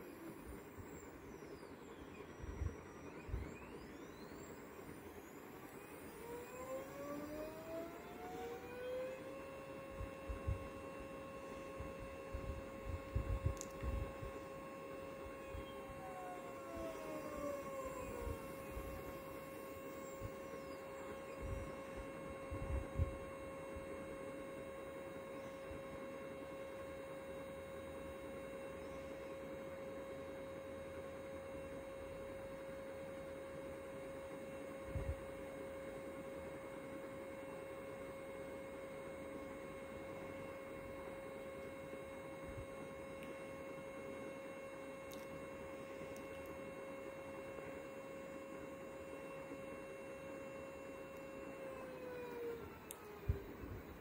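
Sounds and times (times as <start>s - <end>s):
stepper motors whining: 0.0s - 36.8s, 38.4s - 54.0s.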